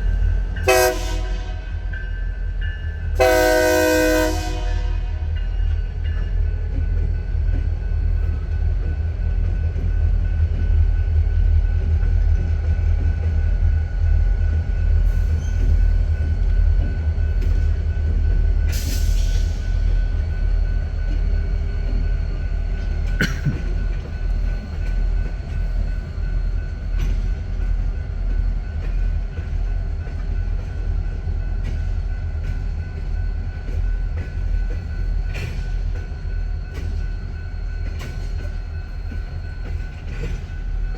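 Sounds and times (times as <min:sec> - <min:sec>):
freight train rumbling: 0:00.0 - 0:40.9.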